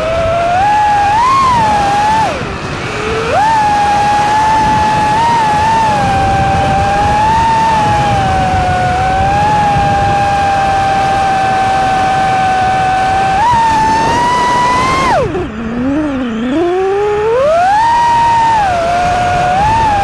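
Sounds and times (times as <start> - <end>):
drone motors whining: 0.0 - 20.0
low wind rush: 0.0 - 20.0.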